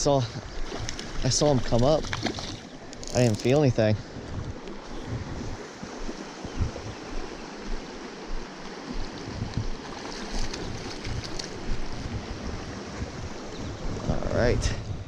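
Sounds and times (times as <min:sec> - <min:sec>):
creek running: 0:00.0 - 0:15.0
wind on microphone: 0:00.2 - 0:15.0.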